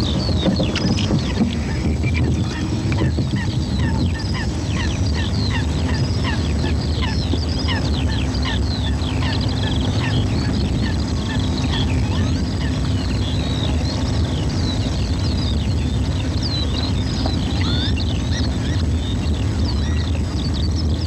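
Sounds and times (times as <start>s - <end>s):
flock of birds chirping: 0.0s - 21.0s
steady low rumble: 0.0s - 21.0s.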